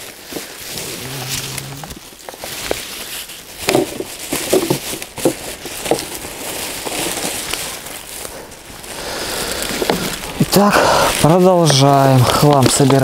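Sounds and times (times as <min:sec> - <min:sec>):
footsteps in dry leaves: 0:00.0 - 0:13.0
twigs cracking and snapping: 0:00.0 - 0:13.0.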